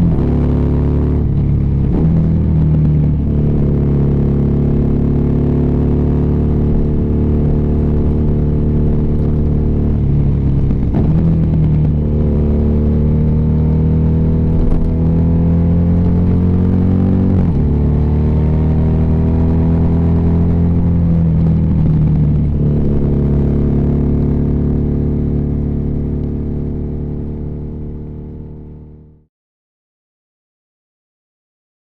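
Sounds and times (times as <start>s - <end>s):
motorcycle engine accelerating: 0.0s - 29.3s.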